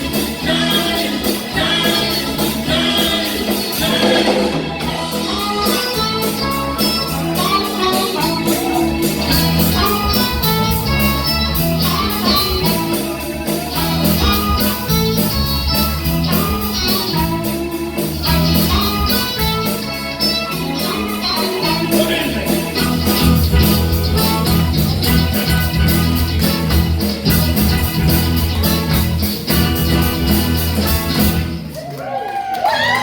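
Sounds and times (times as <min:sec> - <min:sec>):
guitar: 0:00.0 - 0:33.0
live band playing: 0:00.0 - 0:33.0.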